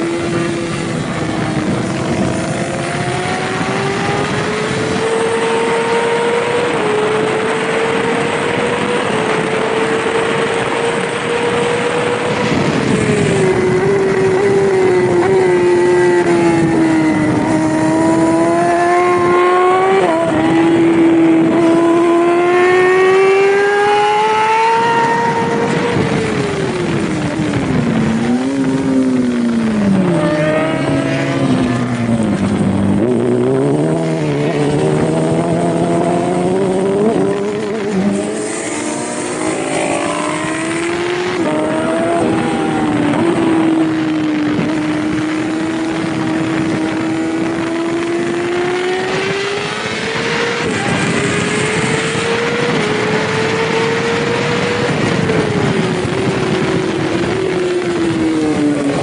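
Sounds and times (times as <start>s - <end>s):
motorcycle engine revving: 0.0s - 59.0s
wind rushing: 0.0s - 59.0s.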